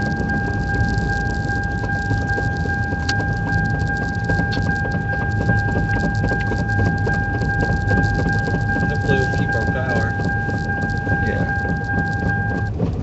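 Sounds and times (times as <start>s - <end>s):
high-pitched whine: 0.0s - 12.7s
engine and tyre rumble: 0.0s - 13.0s
light ticks and rattles: 0.0s - 13.0s.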